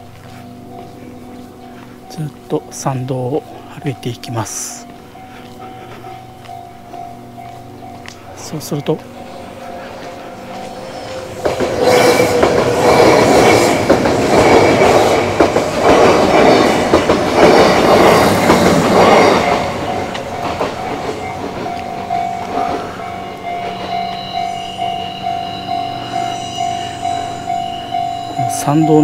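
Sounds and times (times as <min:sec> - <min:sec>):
level crossing warning bell: 0:00.0 - 0:13.6, 0:14.7 - 0:29.0
train wheels clattering on rails: 0:04.7 - 0:29.0.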